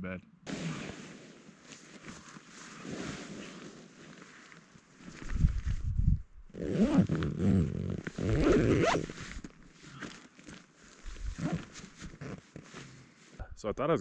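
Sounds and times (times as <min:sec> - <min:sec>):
zipper being pulled closed: 0:00.5 - 0:05.4, 0:06.5 - 0:13.2
fabric rustling: 0:00.5 - 0:13.4.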